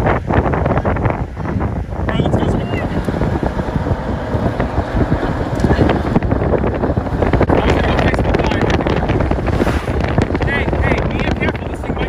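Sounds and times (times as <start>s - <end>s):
strong gusty wind buffeting microphone: 0.0s - 12.0s.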